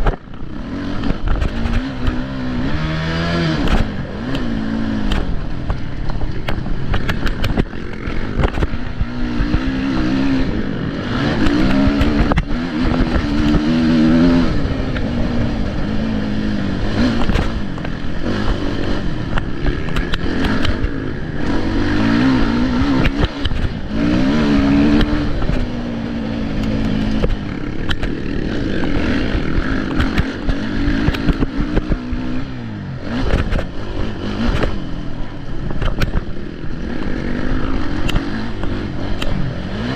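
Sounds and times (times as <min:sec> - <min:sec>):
motorcycle engines revving: 0:00.0 - 0:39.9
knocks and clatter: 0:01.0 - 0:02.3, 0:03.5 - 0:10.2, 0:11.2 - 0:32.4, 0:33.1 - 0:34.9, 0:35.6 - 0:39.9.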